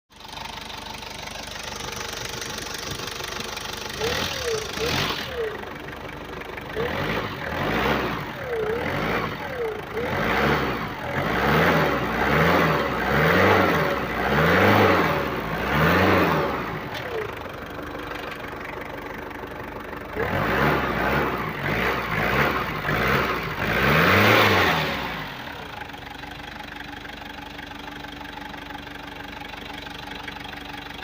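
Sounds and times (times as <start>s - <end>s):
van engine idling and revving: 0.1s - 31.0s.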